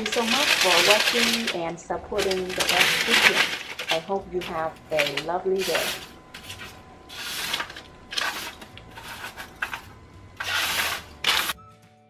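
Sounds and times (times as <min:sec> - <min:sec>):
parchment paper rustling: 0:00.0 - 0:11.6.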